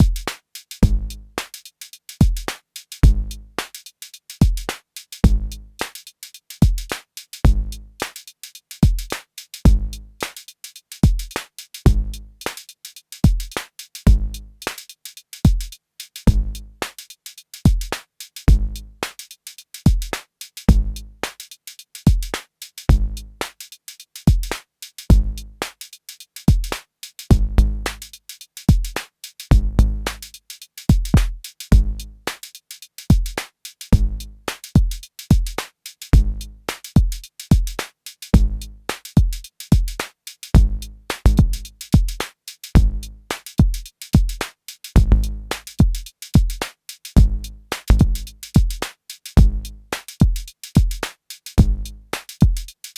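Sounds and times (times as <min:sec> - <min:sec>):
drum machine beat: 0:00.0 - 0:25.8, 0:26.4 - 0:52.9
snare and hi-hat hits: 0:00.0 - 0:52.9.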